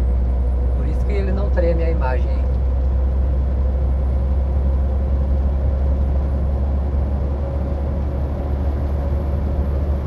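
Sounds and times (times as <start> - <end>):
truck engine drone inside cab: 0.0 - 10.0.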